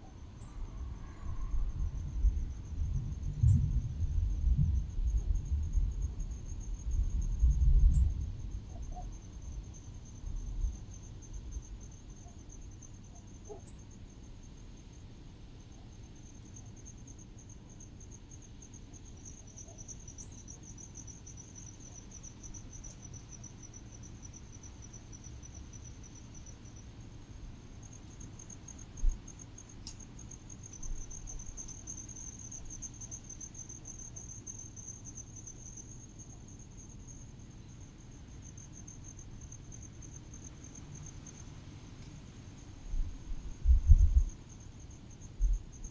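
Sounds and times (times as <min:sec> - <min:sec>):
crickets chirping: 0:00.0 - 0:45.9
low rumble of breeze: 0:00.0 - 0:45.9.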